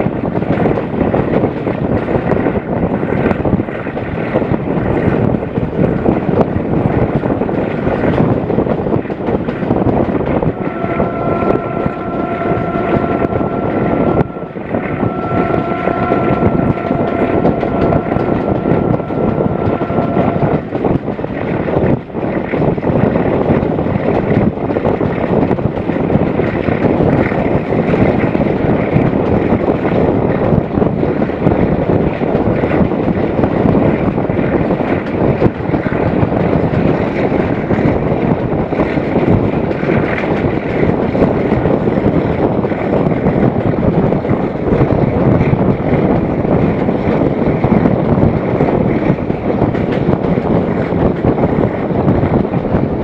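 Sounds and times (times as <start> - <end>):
train coaches rumbling: 0.0 - 53.0
wind rushing on microphone: 0.0 - 53.0.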